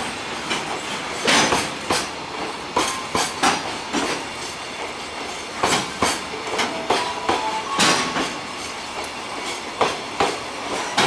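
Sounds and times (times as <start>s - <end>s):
wheels clacking over rail joints: 0.0s - 11.0s.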